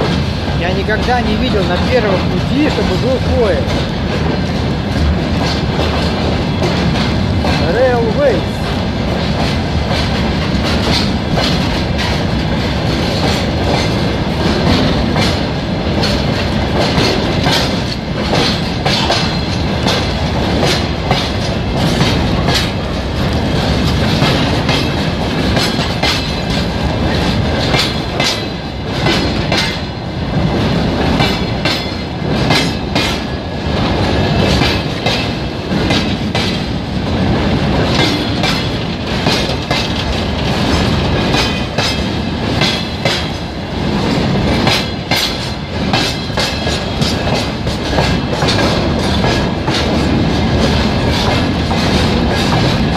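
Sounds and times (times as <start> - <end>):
freight train wheels clattering: 0.0 - 52.9.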